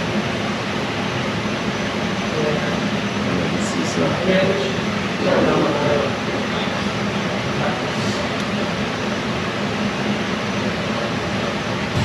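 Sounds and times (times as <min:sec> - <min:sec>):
steady machine noise: 0:00.0 - 0:12.0.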